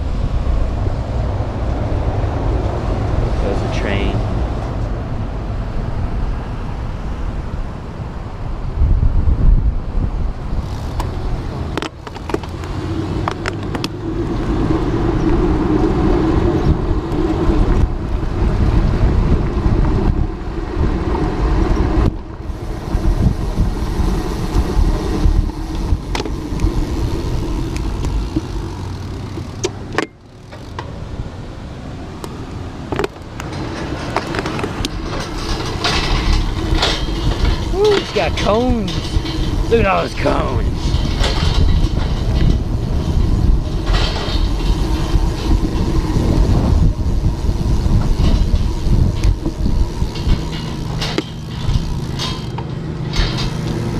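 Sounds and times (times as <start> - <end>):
road traffic passing: 0.0 - 53.9
steady engine hum: 0.0 - 53.9
wind rushing over microphone: 0.0 - 53.9.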